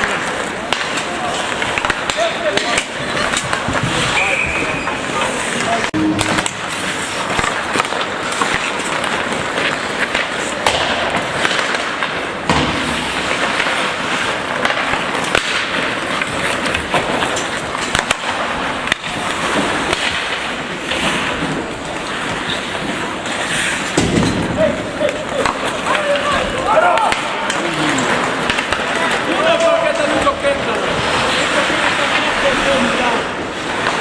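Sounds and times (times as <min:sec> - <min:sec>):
hockey sticks and puck clacking: 0:00.0 - 0:34.0
skates scraping on ice: 0:00.0 - 0:34.0.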